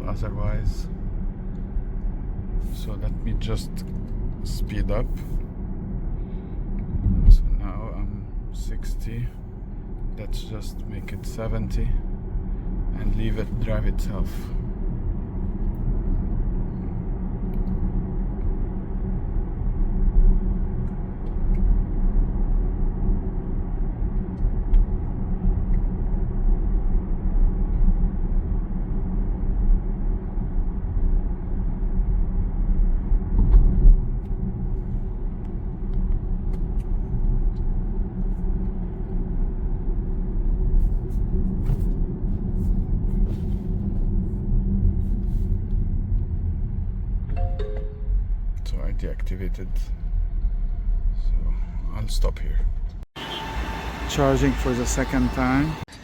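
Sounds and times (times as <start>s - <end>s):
road and tyre rumble in car: 0.0s - 47.5s, 48.2s - 56.0s.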